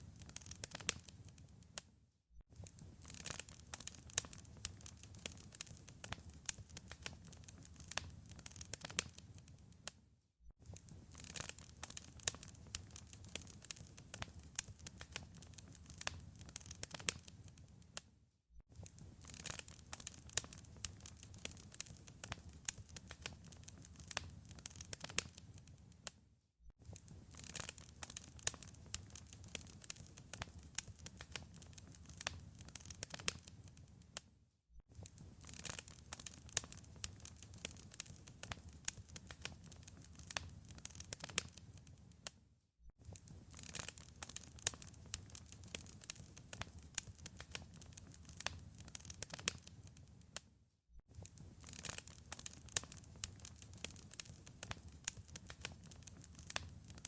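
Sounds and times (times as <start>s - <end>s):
wood fire crackling: 0.0s - 1.8s, 2.6s - 10.0s, 10.6s - 18.0s, 18.7s - 26.1s, 26.8s - 34.2s, 34.9s - 42.4s, 43.0s - 50.4s, 51.1s - 57.0s.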